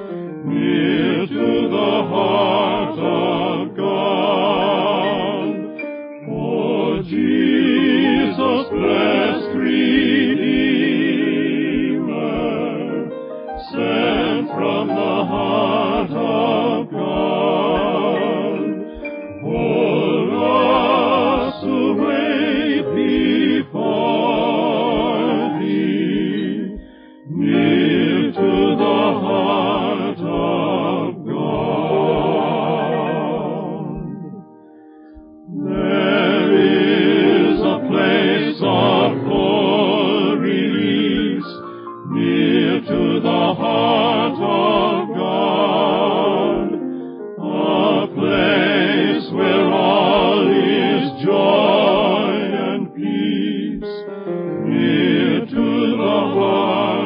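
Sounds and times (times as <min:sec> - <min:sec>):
slow hymn singing with vibrato: 0:00.0 - 0:57.0.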